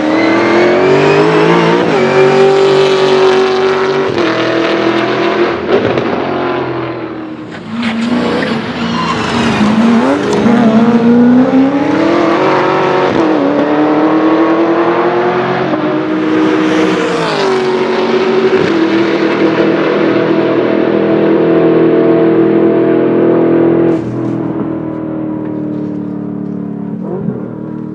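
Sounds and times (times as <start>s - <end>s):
race car engine: 0.0s - 27.9s.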